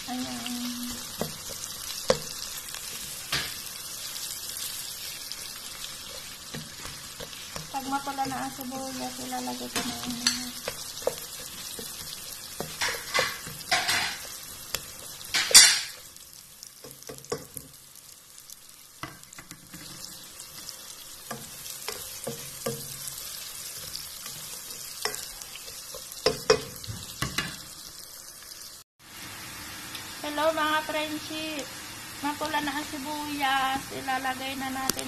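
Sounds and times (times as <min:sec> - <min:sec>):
aromatics sizzling in hot oil: 0:00.0 - 0:35.0
spatula stirring and scraping pan: 0:00.1 - 0:28.6.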